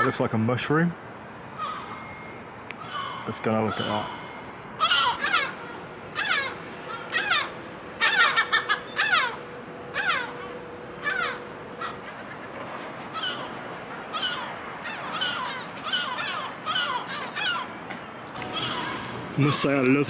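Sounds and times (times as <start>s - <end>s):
gulls calling: 1.2s - 20.0s.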